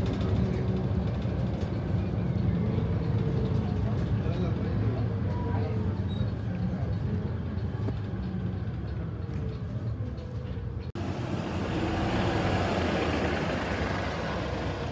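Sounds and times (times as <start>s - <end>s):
bus diesel engine humming: 0.0s - 14.9s
bus pulling past: 0.0s - 14.9s.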